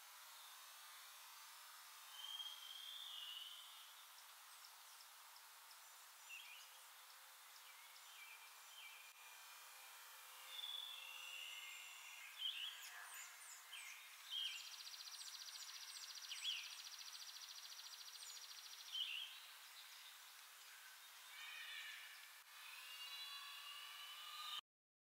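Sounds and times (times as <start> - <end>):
buzzing bird trill: 0.1 - 24.6
warbled birdsong: 2.1 - 24.6.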